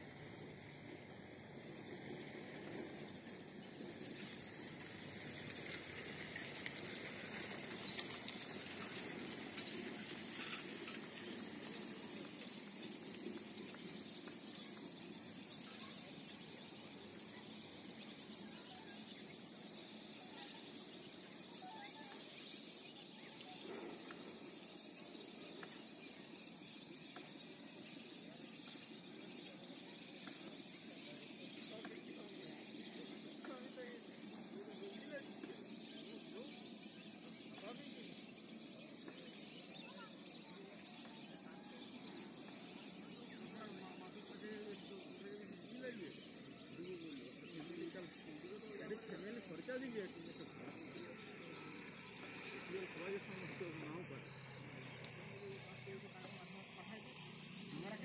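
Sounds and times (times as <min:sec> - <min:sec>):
high insect trill: 0:00.0 - 0:58.0.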